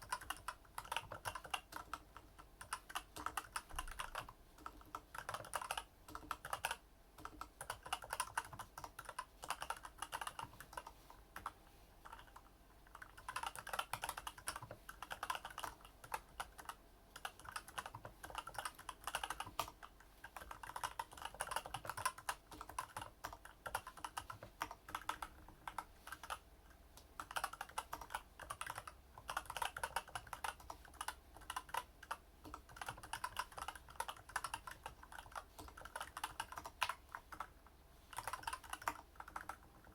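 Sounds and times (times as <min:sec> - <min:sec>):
mechanical keyboard typing: 0:00.0 - 0:26.4, 0:27.0 - 0:39.9.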